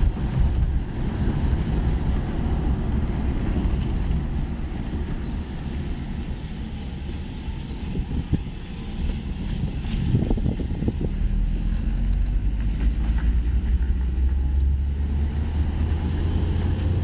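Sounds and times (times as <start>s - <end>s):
car road noise rumble: 0.0s - 17.0s
wind buffeting microphone: 0.0s - 17.0s.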